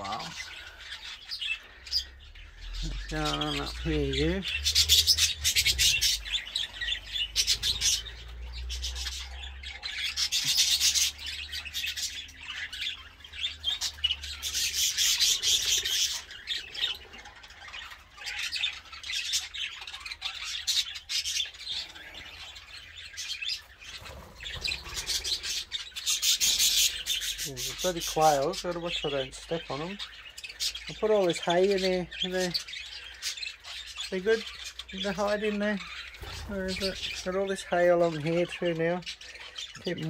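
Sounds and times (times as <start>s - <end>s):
budgerigars chattering and warbling: 0.0s - 40.0s.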